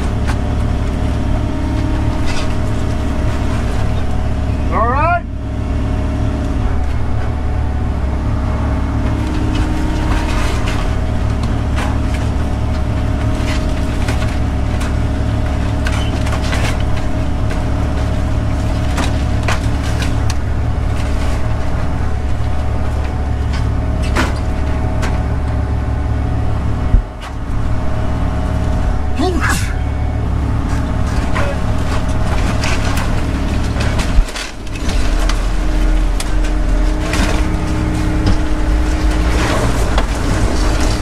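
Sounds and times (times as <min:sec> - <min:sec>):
wood cracking and crunching: 0:00.0 - 0:04.6, 0:05.9 - 0:41.0
excavator diesel engine: 0:00.0 - 0:41.0.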